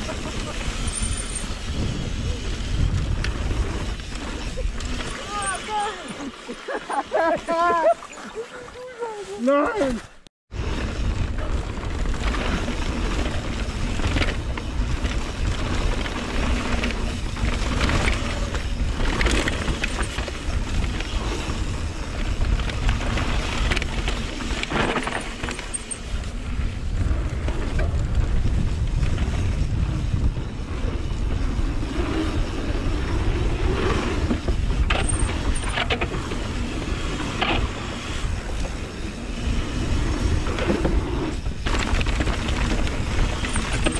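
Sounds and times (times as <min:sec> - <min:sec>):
wind and tyre rumble: 0:00.0 - 0:06.7, 0:09.8 - 0:43.9
bike rattles and knocks: 0:00.0 - 0:07.4, 0:10.6 - 0:43.9.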